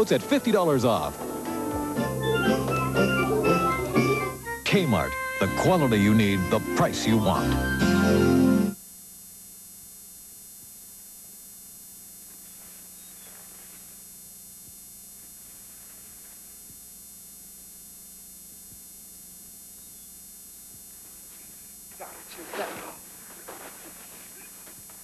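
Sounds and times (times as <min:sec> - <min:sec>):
electrical hum with hiss: 0:00.0 - 0:25.0.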